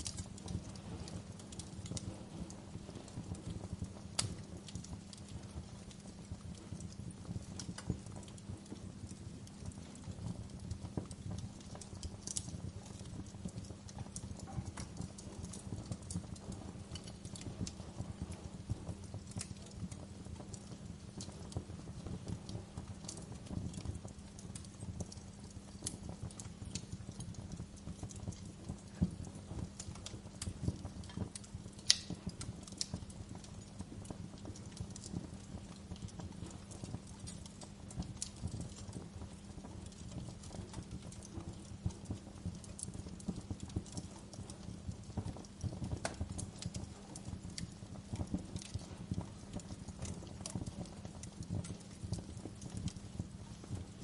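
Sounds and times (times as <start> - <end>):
low rumble of flames: 0.0 - 54.0
wood fire pops and snaps: 0.0 - 54.0.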